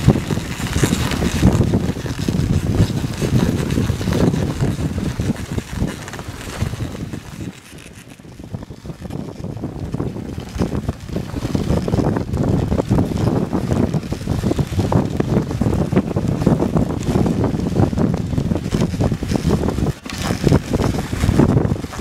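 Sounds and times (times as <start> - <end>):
sled runners scraping snow: 0.0 - 22.0
wind buffeting microphone: 0.0 - 22.0.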